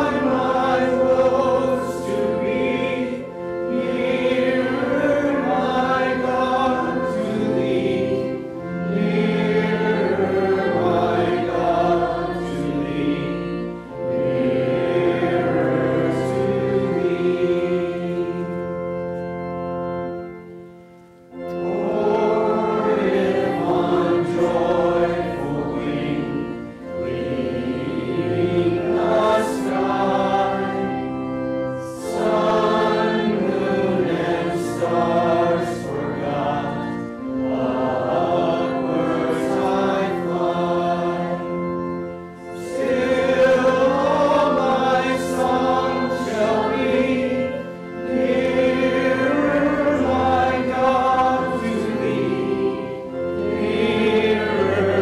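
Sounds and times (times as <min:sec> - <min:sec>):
congregation singing a hymn: 0:00.0 - 0:55.0
held instrumental chords: 0:00.0 - 0:55.0.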